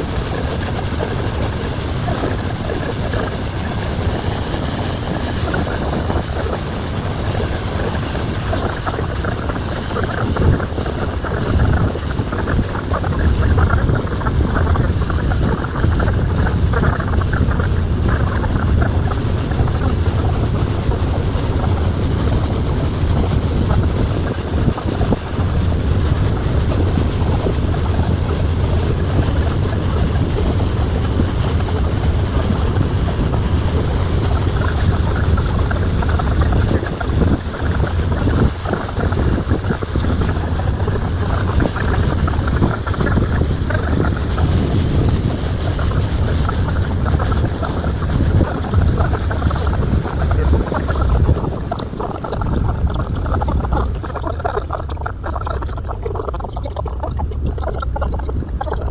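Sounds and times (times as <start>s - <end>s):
boat engine drone: 0.0s - 58.9s
rushing wind: 0.0s - 58.9s.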